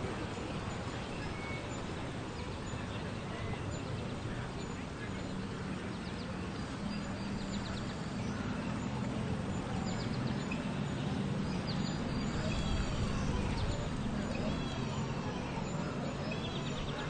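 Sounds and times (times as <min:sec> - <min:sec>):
low murmur: 0:00.0 - 0:17.0.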